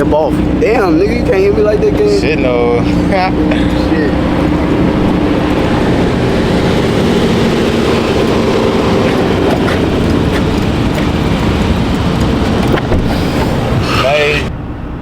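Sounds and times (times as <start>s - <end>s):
car engine hum: 0.0s - 15.0s
road noise rumble: 0.0s - 15.0s.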